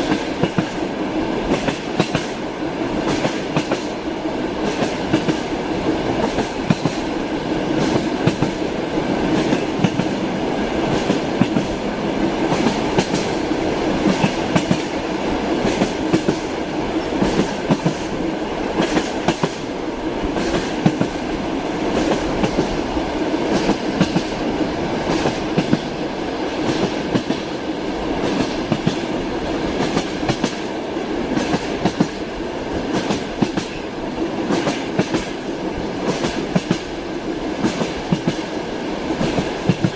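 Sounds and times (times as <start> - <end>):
train wheels clicking over rail joints: 0.0 - 2.4, 3.0 - 19.7, 20.3 - 22.8, 23.4 - 39.9
railway carriage rumble: 0.0 - 39.9.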